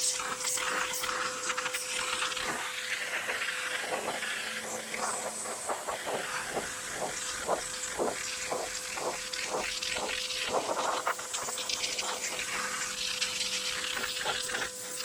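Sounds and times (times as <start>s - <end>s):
machine humming: 0.0s - 15.0s
pressure washer water jet hissing: 0.0s - 15.0s.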